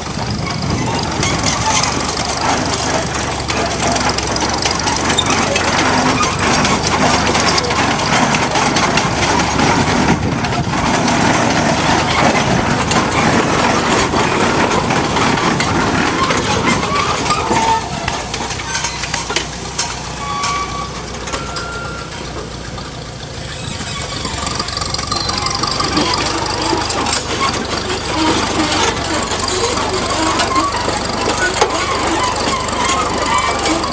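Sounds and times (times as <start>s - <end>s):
clanks and rattles: 0.0s - 33.9s
heavy vehicle rumbling: 0.0s - 33.9s.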